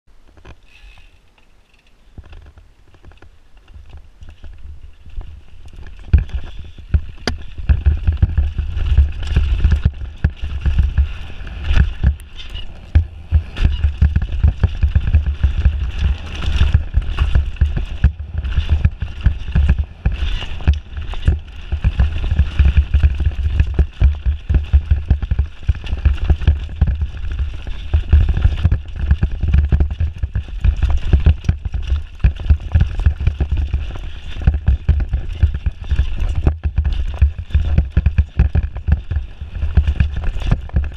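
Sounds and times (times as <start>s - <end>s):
bike rattling over bumps: 0.2s - 40.9s
tyres crunching over stones: 2.1s - 40.9s
wind rumble on microphone: 2.1s - 40.9s.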